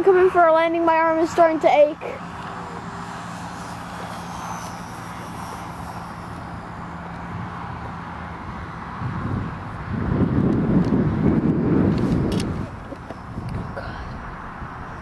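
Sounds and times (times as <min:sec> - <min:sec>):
model plane motor: 0:00.9 - 0:13.7
wind on microphone: 0:02.9 - 0:15.0.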